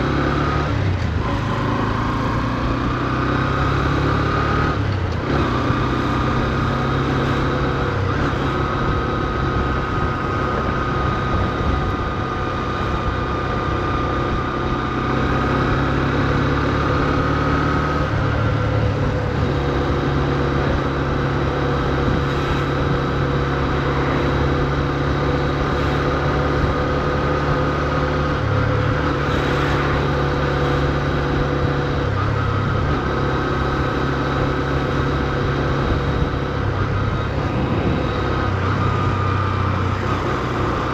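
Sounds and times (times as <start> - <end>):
motorcycle engine running: 0.0 - 40.9
road noise: 0.0 - 40.9.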